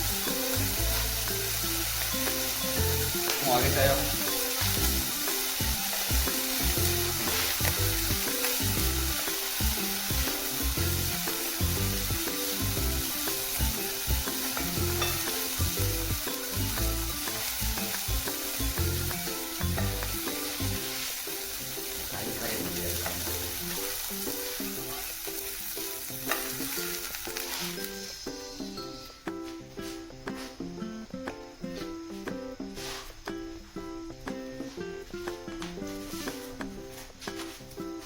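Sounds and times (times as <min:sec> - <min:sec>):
background music: 0:00.0 - 0:38.0
food sizzling on a grill: 0:00.0 - 0:38.0.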